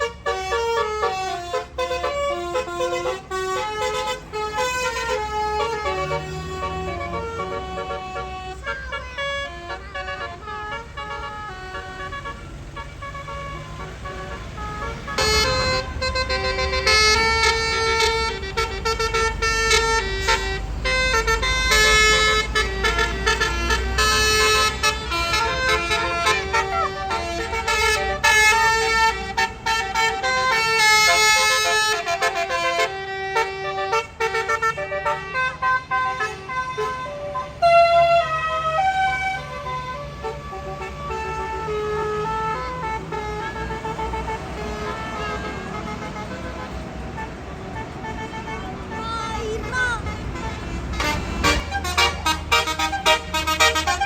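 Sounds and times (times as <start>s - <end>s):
bus engine rumble: 0.0s - 54.0s
multi-tone bus horns: 0.0s - 54.0s.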